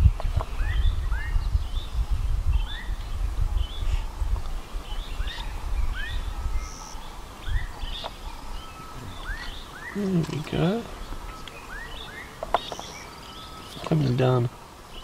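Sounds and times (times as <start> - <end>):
birds whistling and chirping: 0.0 - 15.0.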